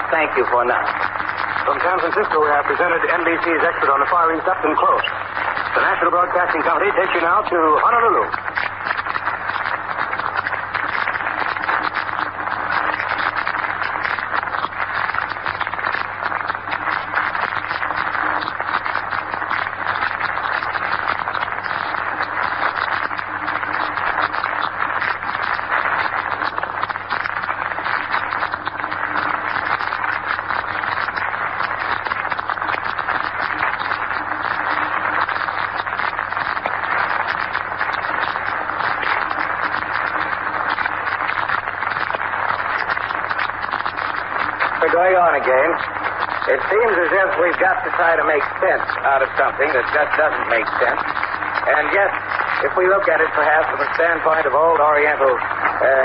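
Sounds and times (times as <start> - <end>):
radio static hiss and crackle: 0.0 - 56.0.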